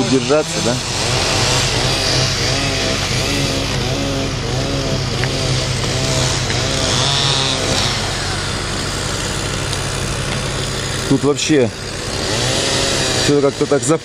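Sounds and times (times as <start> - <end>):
engine running with wavering tone: 0.0 - 14.0.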